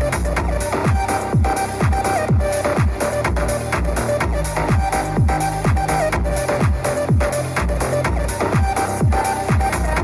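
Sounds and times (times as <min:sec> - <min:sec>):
electronic dance music: 0:00.0 - 0:10.0
kick drum: 0:00.0 - 0:10.0.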